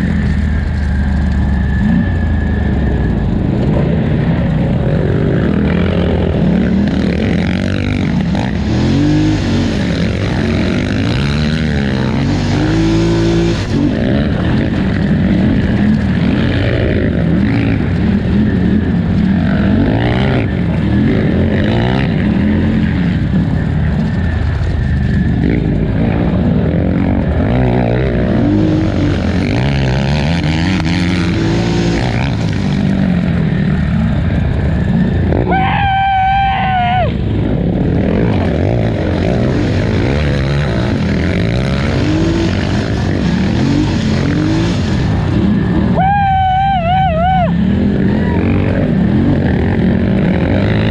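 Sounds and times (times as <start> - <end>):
atv engine revving: 0.0 - 50.9
high wavering whine: 0.0 - 50.9.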